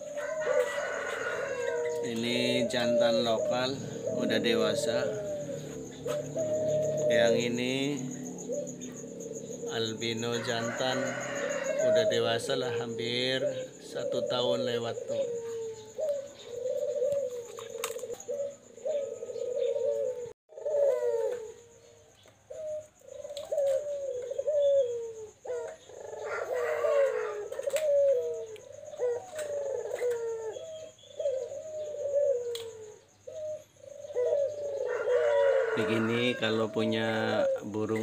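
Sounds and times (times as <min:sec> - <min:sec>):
doves cooing: 0:00.0 - 0:38.0
bird chirps: 0:01.6 - 0:26.6, 0:27.4 - 0:34.8.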